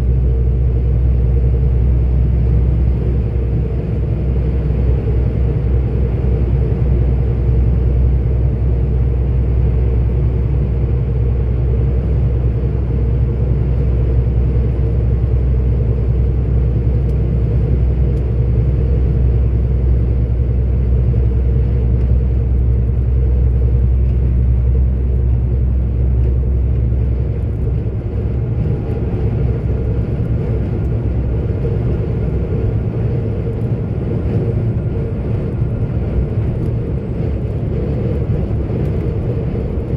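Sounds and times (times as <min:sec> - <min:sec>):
lorry diesel engine drone: 0:00.0 - 0:39.9
road noise: 0:00.0 - 0:39.9.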